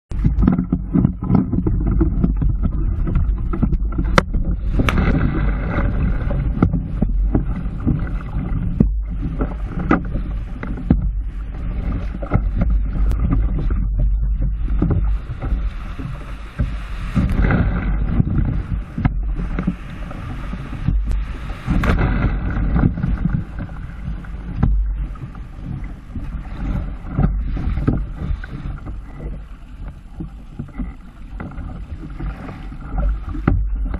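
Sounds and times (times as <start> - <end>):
surf breaking: 0.1 - 33.9
water splashing against hull: 0.1 - 33.9
wind rumble on microphone: 0.1 - 33.9.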